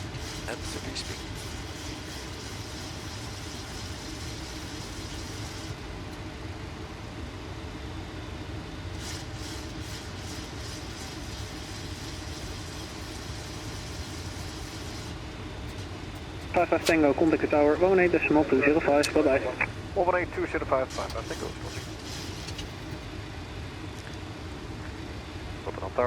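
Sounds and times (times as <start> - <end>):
airflow and engine rush: 0.0 - 26.0.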